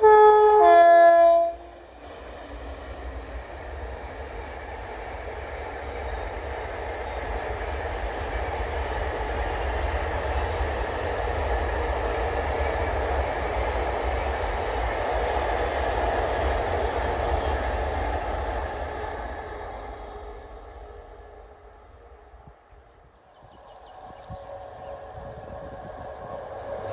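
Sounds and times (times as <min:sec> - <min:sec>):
freight train wheels on steel bridge: 0:00.0 - 0:26.9.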